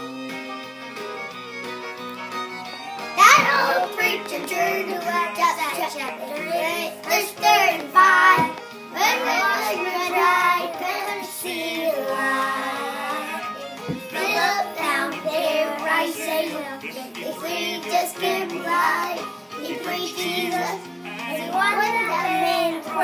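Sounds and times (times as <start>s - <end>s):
musical accompaniment: 0.0s - 23.0s
children singing: 3.0s - 23.0s.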